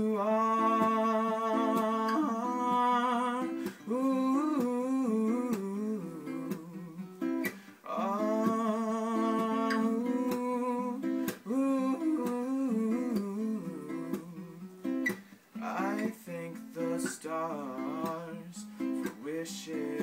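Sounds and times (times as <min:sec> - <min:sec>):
man singing: 0:00.0 - 0:14.7, 0:15.5 - 0:20.0
acoustic guitar plucked: 0:00.0 - 0:20.0.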